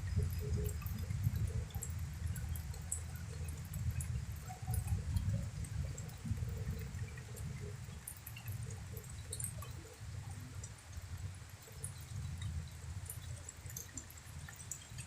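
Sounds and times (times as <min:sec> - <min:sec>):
drops dripping: 0:00.0 - 0:15.0.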